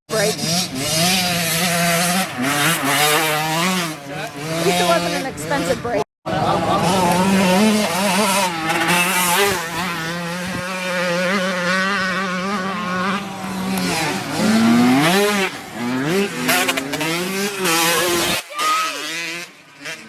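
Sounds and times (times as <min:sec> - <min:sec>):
dirt bike engines revving: 0:00.1 - 0:20.0.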